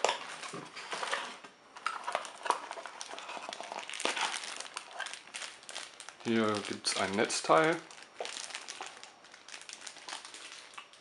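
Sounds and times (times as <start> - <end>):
plastic bag crinkling: 1.8 - 11.0.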